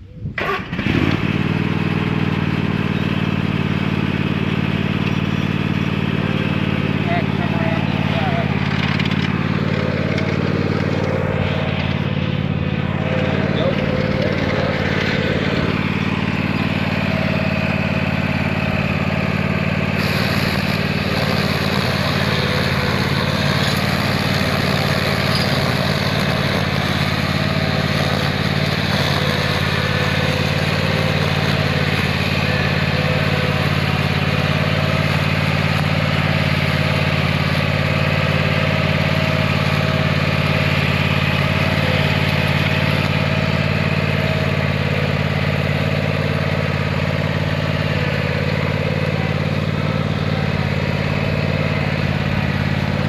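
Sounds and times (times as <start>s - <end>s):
lawnmower engine running: 0.0s - 53.0s
string trimmer spinning: 6.8s - 53.0s.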